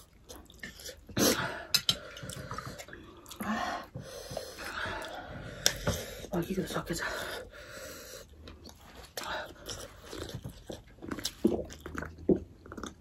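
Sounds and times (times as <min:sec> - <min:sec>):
chewing sausage: 0:00.0 - 0:06.3, 0:07.3 - 0:13.0.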